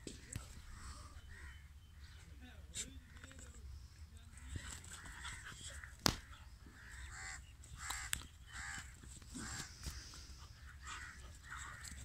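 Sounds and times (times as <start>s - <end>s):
crows cawing: 0.2s - 2.2s, 4.4s - 12.0s.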